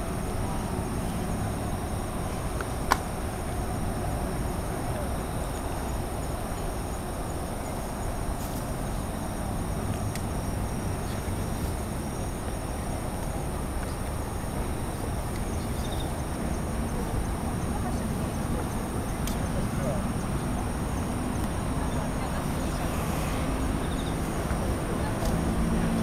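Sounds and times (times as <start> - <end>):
night insects chirping: 0.0 - 26.0.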